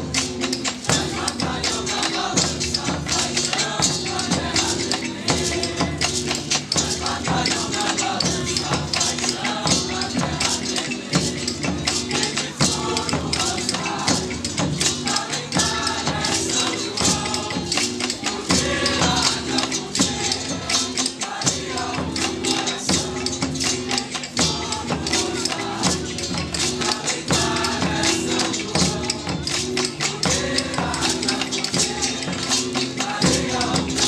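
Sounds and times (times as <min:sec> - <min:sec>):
tambourines and shakers: 0:00.0 - 0:34.0
voices singing: 0:00.0 - 0:34.0.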